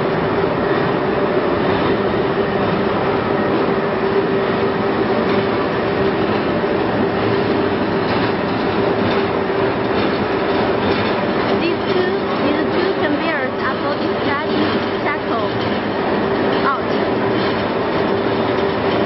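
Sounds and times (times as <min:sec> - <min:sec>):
constant hum: 0:00.0 - 0:19.0
furnace plant machinery running: 0:00.0 - 0:19.0.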